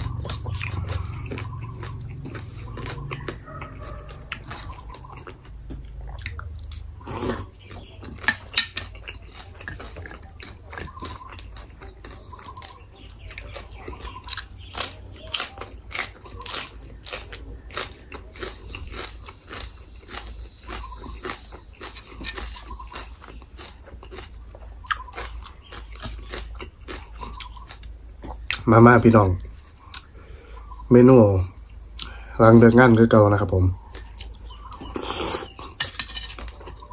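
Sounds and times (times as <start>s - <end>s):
chewing crunchy salad: 0.0s - 30.8s, 31.5s - 36.9s.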